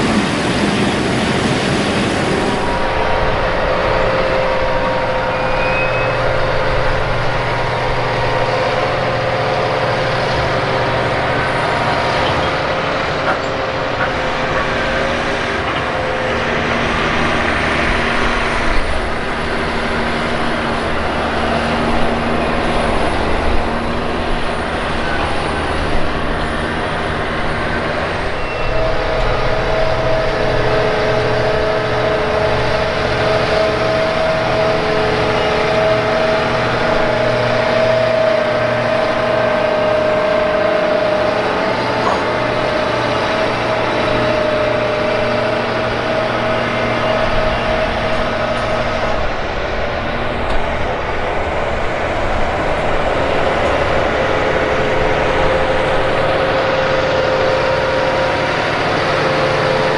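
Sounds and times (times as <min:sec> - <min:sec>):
tractor diesel engines under load: 0:00.0 - 0:59.9.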